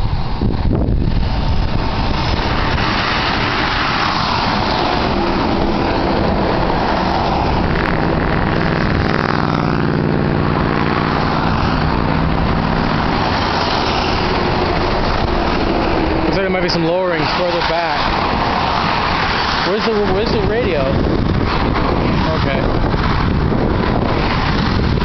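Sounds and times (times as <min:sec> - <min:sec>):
road and wind noise in car: 0:00.0 - 0:25.0
car engine accelerating: 0:00.4 - 0:25.0.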